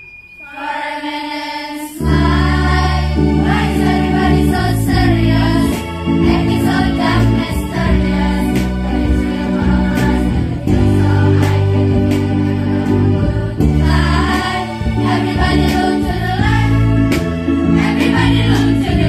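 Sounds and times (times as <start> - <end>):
girls' choir singing: 0.4 - 19.0
held low instrumental notes: 2.0 - 19.0.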